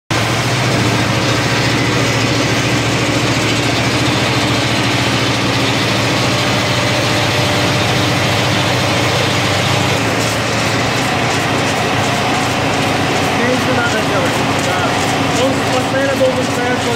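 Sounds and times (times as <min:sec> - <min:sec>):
motor hum: 0:00.1 - 0:16.9
peanuts rattling over steel trays: 0:00.5 - 0:16.9.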